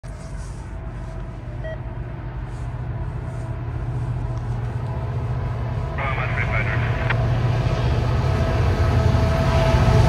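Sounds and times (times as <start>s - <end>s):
diesel locomotives rumbling: 0.0s - 10.0s.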